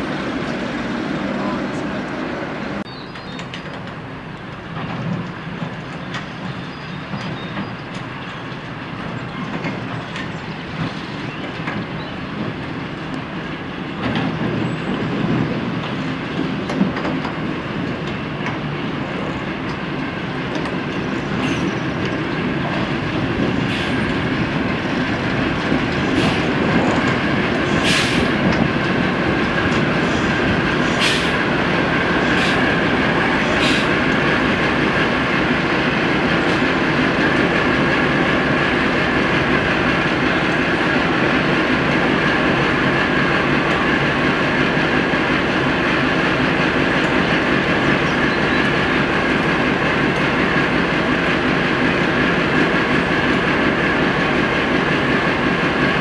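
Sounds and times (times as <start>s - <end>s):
diesel locomotive engine running: 0.0s - 56.0s
wheels clicking over rail joints: 3.1s - 56.0s.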